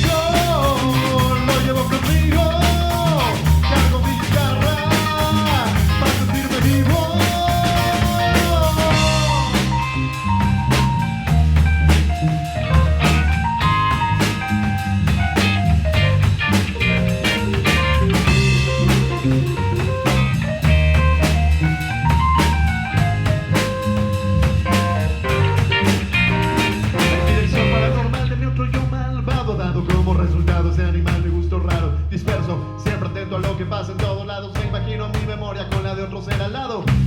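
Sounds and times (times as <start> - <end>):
live band playing: 0.0 - 30.8
drum kit beat: 0.0 - 37.0.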